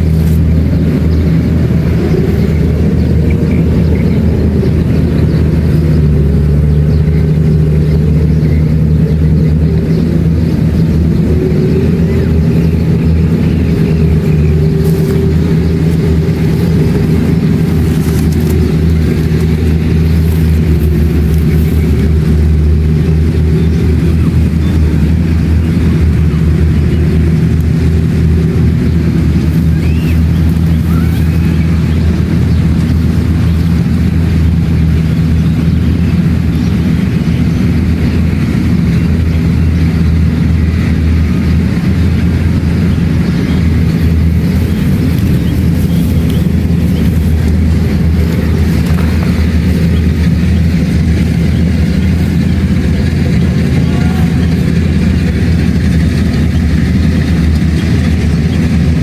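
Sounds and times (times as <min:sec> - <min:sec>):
combine harvester diesel drone: 0:00.0 - 0:59.0.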